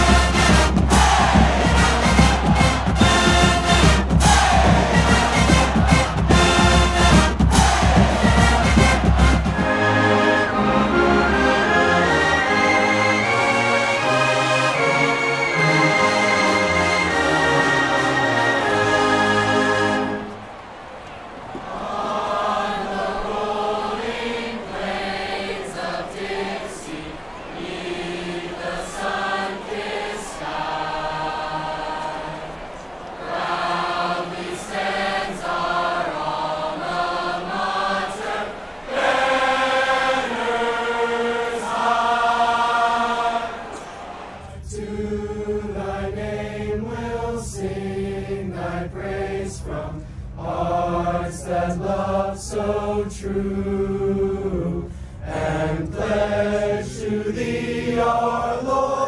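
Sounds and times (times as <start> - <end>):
choir singing long held notes: 0.0 - 59.0.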